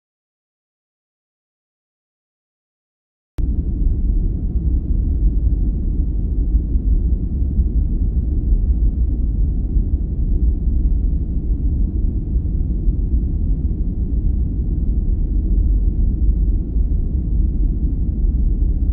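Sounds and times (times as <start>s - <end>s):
steady deep noise: 3.4s - 18.9s.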